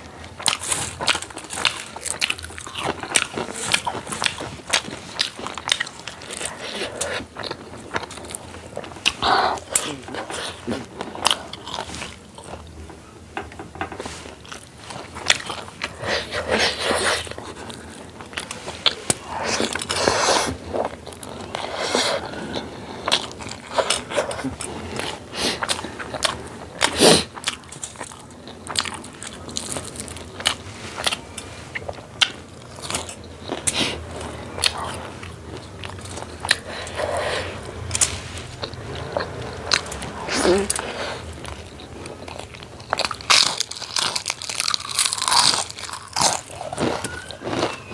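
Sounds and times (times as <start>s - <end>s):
chewing with crunches: 0.0s - 47.9s.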